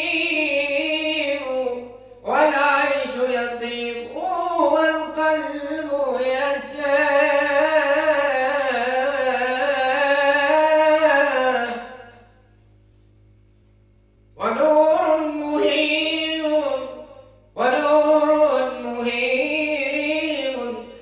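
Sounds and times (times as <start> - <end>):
man singing devotional chant: 0.0 - 12.2, 14.4 - 21.0.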